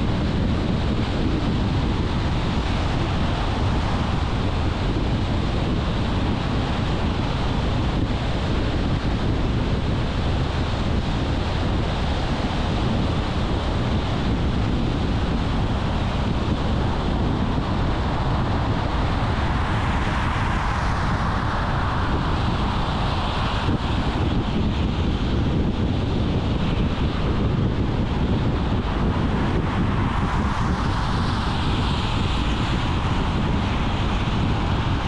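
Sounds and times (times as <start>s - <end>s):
car road and wind noise: 0.0s - 35.0s.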